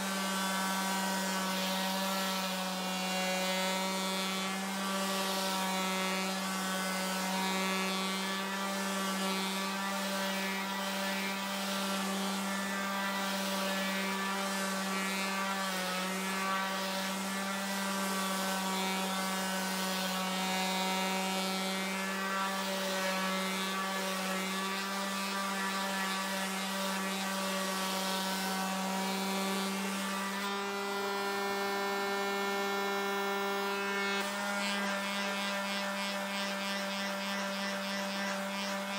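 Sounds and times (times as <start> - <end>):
sander motor hum: 0.0 - 38.9
sandpaper scrubbing wood: 0.0 - 38.9.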